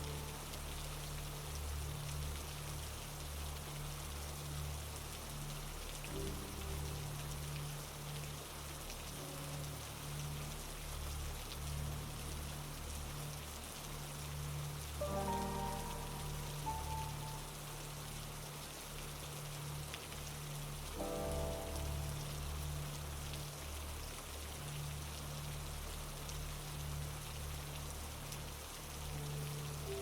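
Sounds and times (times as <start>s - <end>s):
soft background music: 0.0s - 30.0s
steady rain falling: 0.0s - 30.0s.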